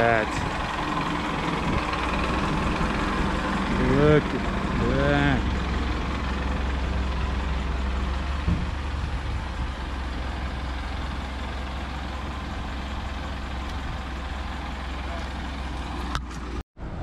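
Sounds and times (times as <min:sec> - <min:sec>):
truck engine idling: 0:00.0 - 0:16.6.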